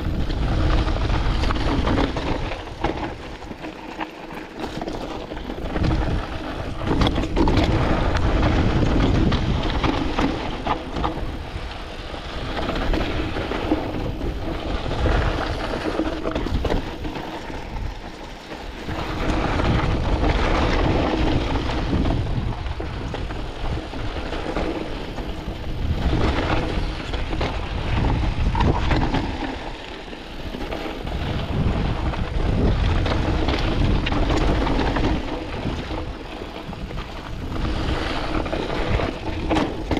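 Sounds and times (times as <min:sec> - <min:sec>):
wind rushing over microphone: 0:00.0 - 0:03.7, 0:04.8 - 0:39.9
bike rattling: 0:00.0 - 0:39.9
tyres crunching over stones: 0:00.0 - 0:39.9.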